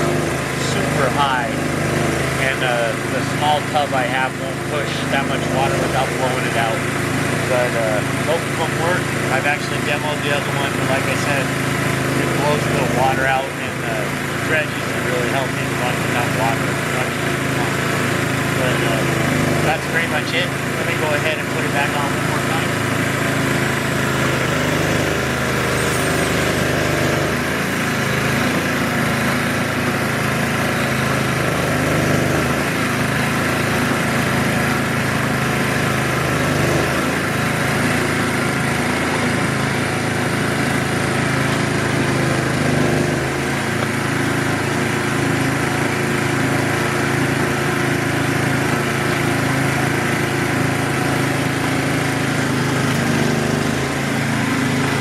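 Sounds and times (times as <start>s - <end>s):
small gasoline engine running: 0.0s - 55.0s.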